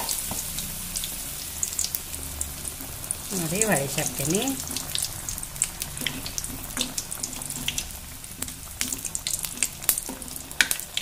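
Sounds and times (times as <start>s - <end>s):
fritters sizzling in oil: 0.0s - 11.0s.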